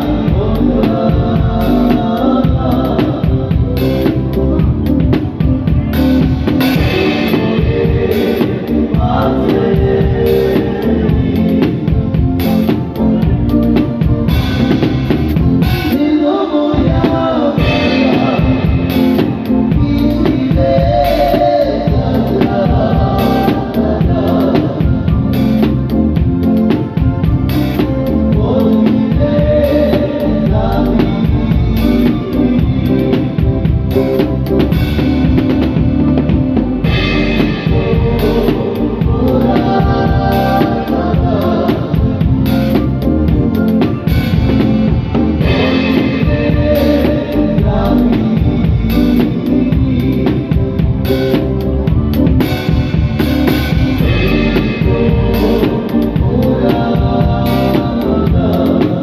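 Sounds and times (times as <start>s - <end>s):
drum kit played hard: 0.0s - 59.0s
loud live band music: 0.0s - 59.0s.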